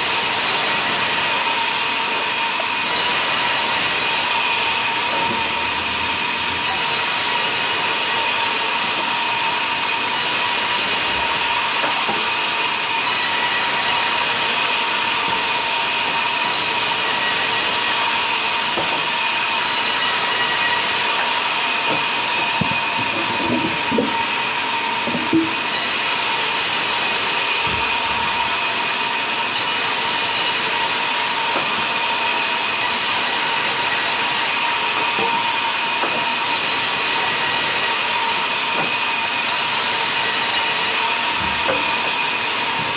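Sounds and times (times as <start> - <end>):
band saw cutting log: 0.0 - 42.9.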